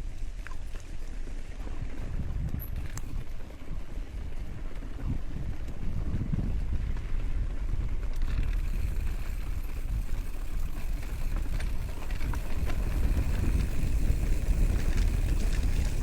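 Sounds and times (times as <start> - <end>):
bicycle clicking and rattling: 0.0 - 16.0
wind rushing over microphone: 1.5 - 16.0.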